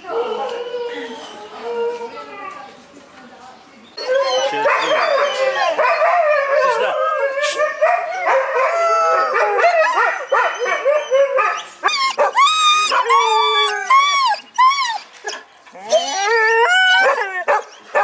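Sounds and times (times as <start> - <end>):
dogs barking and howling: 0.0 - 2.5, 4.0 - 18.0.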